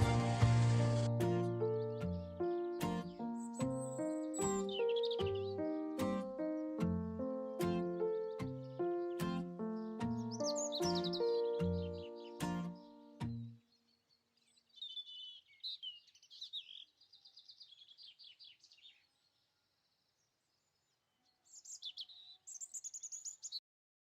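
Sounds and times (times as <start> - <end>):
small birds chirping: 1.6 - 23.6.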